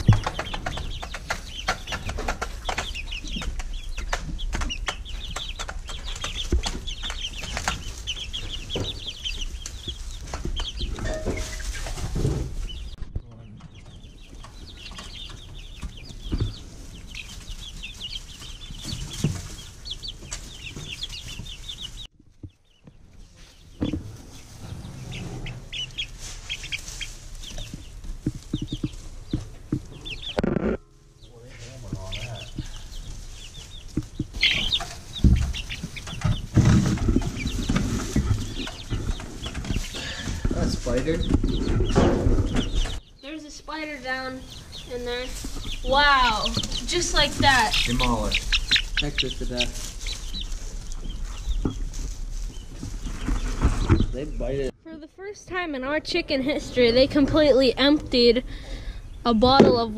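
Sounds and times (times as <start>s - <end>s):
knocks and rustling: 0.0s - 54.7s
chicks peeping: 0.0s - 59.9s.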